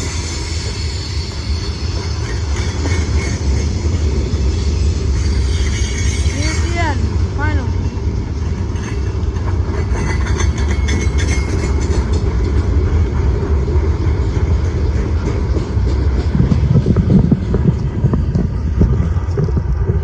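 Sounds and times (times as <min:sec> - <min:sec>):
freight train wheels on track: 0:00.0 - 0:20.0.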